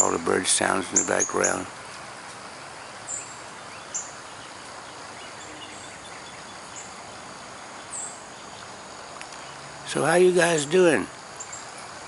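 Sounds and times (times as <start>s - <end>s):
outdoor background hiss: 0.0s - 12.0s
small birds chipping: 0.0s - 12.0s.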